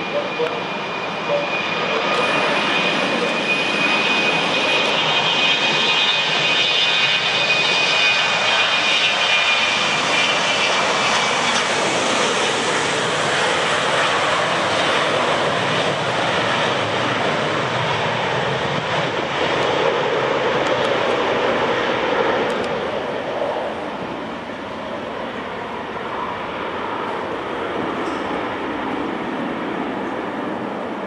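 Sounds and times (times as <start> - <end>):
jet engines at takeoff: 0.0 - 31.0.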